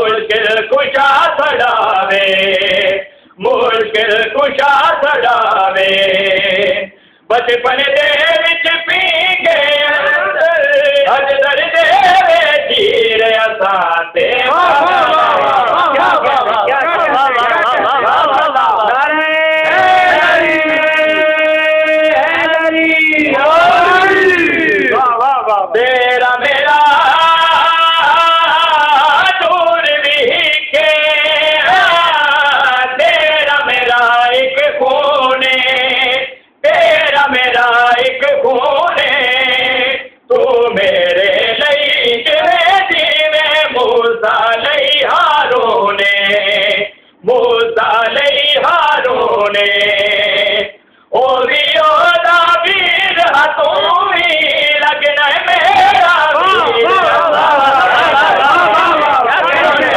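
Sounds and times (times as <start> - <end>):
two men singing: 0.0 - 59.9.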